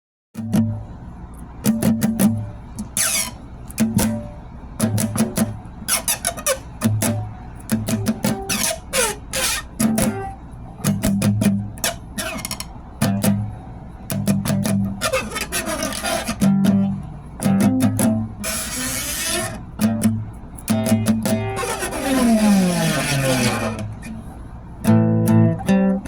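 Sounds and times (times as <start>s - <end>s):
guitar plucked and strummed: 0.4s - 26.0s
squeaky guitar slides: 1.6s - 26.0s.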